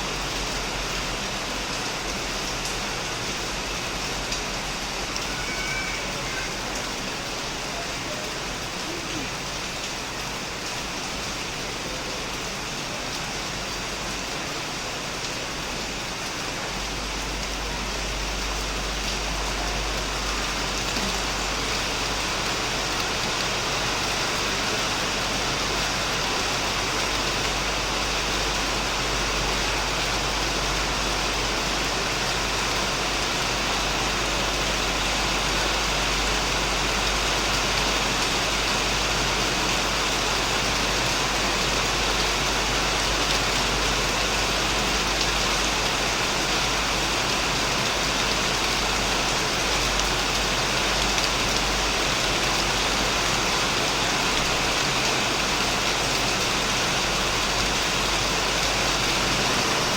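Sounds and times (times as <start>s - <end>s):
heavy rain on a shed roof: 0.0s - 59.9s.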